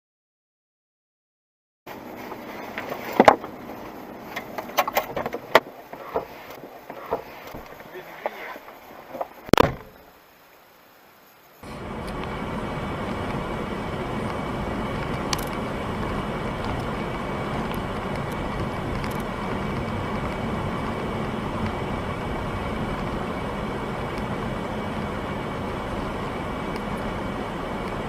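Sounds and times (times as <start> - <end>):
car road and engine noise: 1.9 - 10.5, 11.6 - 28.0.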